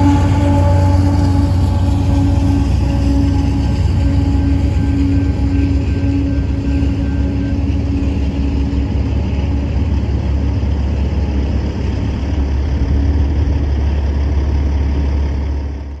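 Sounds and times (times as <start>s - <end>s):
steady tone: 0.0s - 15.9s
heavy machinery rumble: 0.0s - 16.0s.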